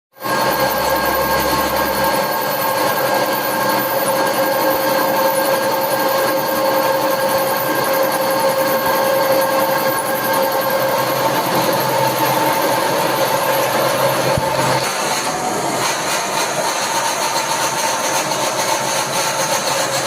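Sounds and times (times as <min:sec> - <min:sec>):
milling machine whining: 0:00.2 - 0:20.0.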